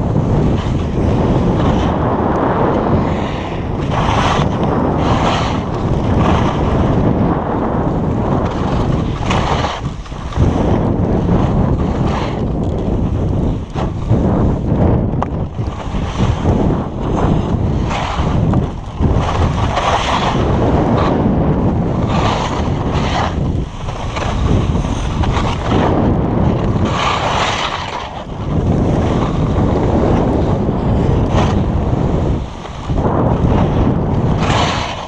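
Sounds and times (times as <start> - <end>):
skis sliding over snow: 0.0 - 35.0
wind buffeting microphone: 0.0 - 35.0.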